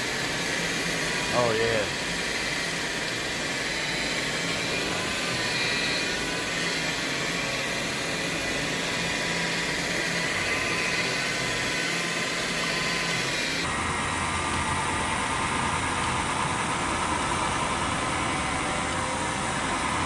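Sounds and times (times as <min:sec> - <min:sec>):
cleaning machine droning: 0:00.0 - 0:20.0.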